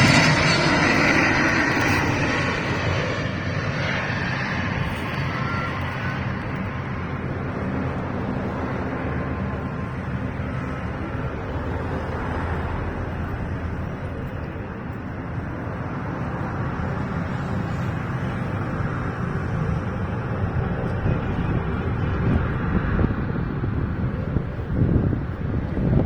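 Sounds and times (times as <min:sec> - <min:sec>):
aircraft engine rumble: 0:00.0 - 0:26.0
wind buffeting microphone: 0:00.0 - 0:26.0.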